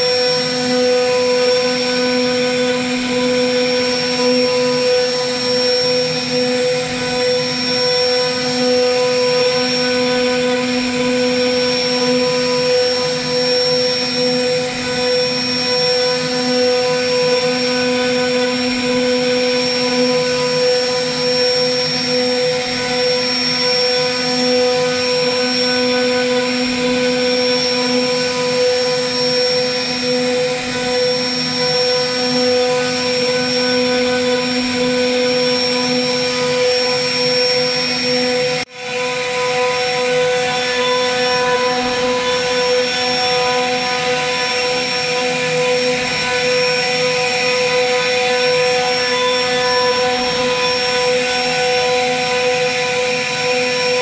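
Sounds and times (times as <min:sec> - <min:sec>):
router spindle whine: 0:00.0 - 0:54.0.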